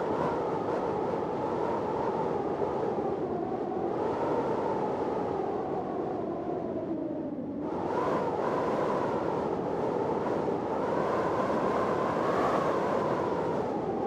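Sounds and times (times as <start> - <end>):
storm wind whistling: 0.0 - 14.0.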